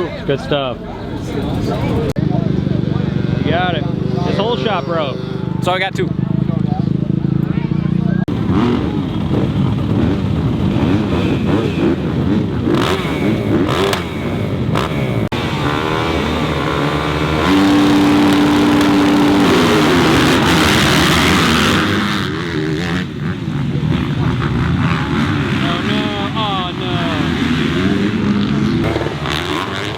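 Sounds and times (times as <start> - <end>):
motocross bikes revving: 0.0 - 29.9
motorbike passing close: 0.0 - 29.9.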